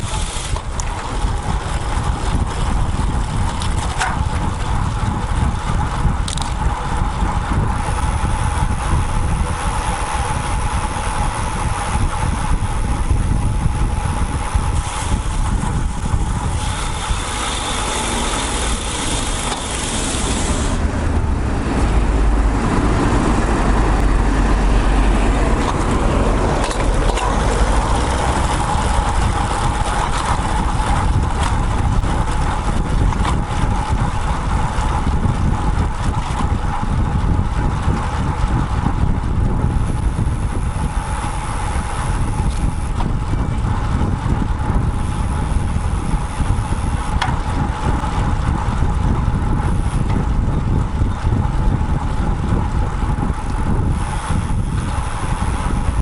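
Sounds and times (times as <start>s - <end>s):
heavy low rumble: 0.0s - 56.0s
road noise: 0.0s - 56.0s
wind on microphone: 0.0s - 56.0s
motor vehicles passing: 1.0s - 56.0s.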